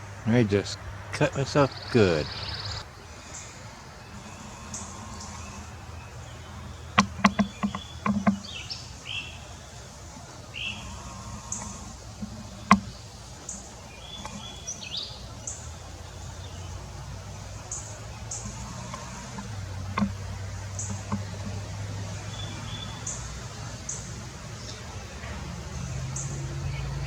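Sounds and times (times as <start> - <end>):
birds chirping: 0.0 - 27.0
sharp clicks: 1.2 - 9.1, 9.7 - 24.1.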